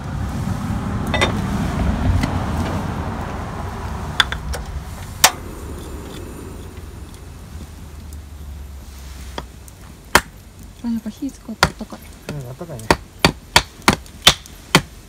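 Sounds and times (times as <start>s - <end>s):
low steady rumble: 0.0s - 12.3s.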